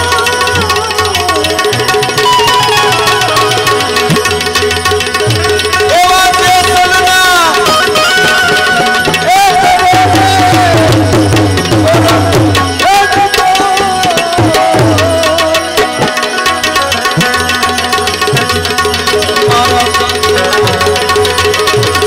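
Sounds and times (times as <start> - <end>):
devotional music: 0.0 - 22.0
tabla beat: 0.0 - 22.0.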